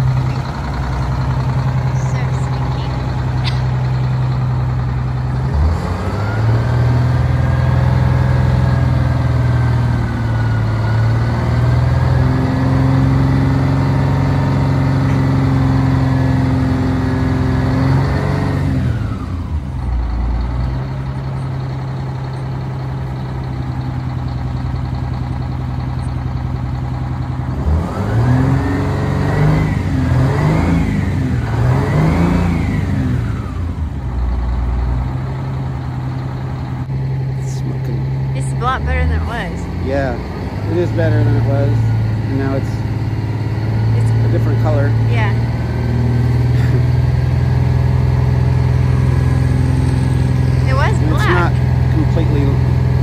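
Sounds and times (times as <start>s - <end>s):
bus diesel engine revving: 0.0s - 53.0s.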